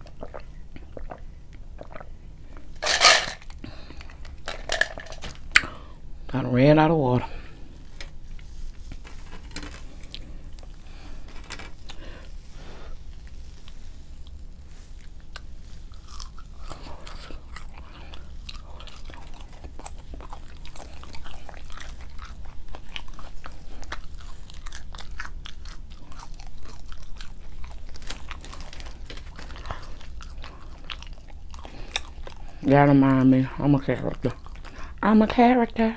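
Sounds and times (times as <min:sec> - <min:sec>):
chewing and crunching food: 0:00.0 - 0:05.8, 0:07.4 - 0:35.9
steady low hum: 0:00.0 - 0:35.9.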